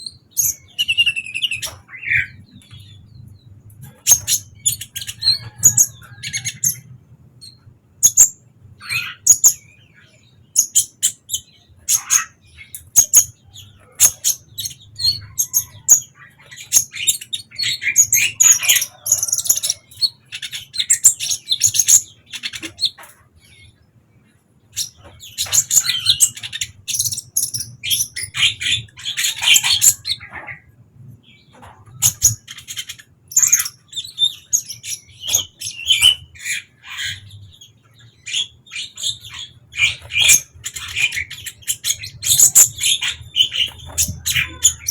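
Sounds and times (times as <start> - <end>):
bird chirping and trilling: 0.0 - 23.8, 24.7 - 44.9.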